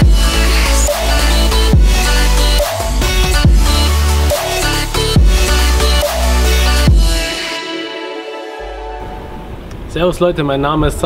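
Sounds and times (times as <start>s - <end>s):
electronic music with heavy bass: 0.0s - 9.5s.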